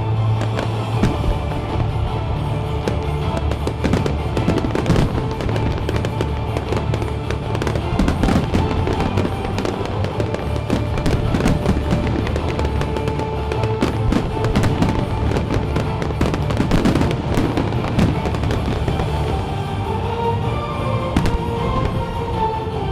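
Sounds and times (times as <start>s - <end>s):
loud music: 0.0s - 22.9s
fireworks bangs and crackles: 0.3s - 20.0s, 21.1s - 22.4s.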